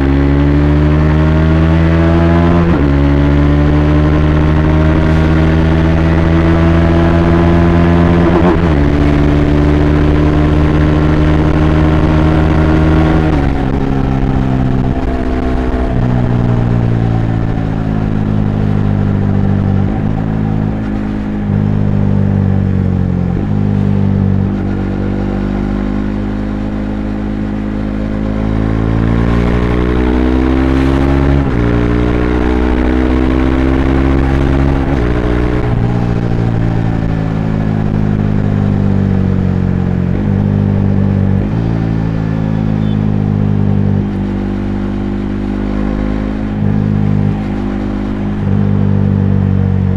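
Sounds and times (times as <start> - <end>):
motorcycle engine revving through gears: 0.0 - 49.9.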